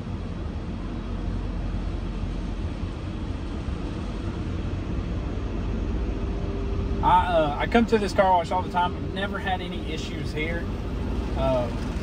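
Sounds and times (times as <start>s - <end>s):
low rumble: 0.0s - 12.0s
water jets spraying a car: 0.0s - 12.0s.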